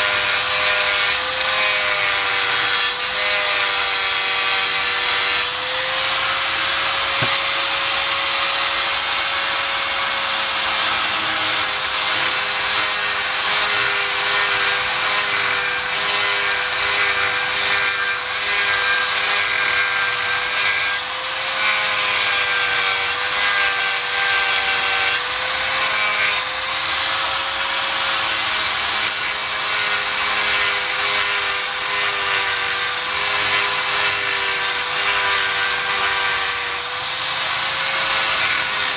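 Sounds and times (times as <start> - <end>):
handheld power tool motor: 0.0 - 38.9.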